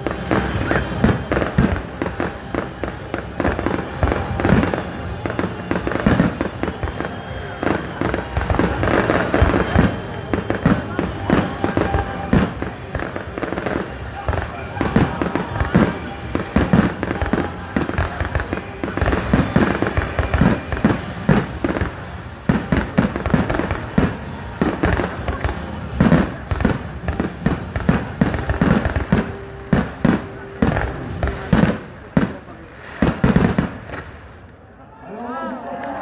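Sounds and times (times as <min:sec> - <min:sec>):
fireworks crackling: 0:00.0 - 0:34.7.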